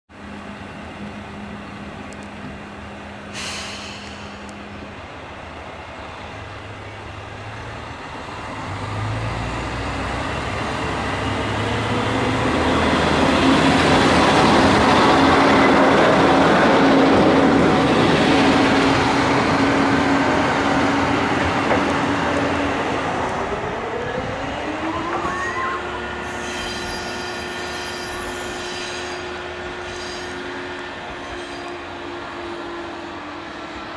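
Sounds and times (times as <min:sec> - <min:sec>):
diesel railcar passing: 0:00.1 - 0:33.9.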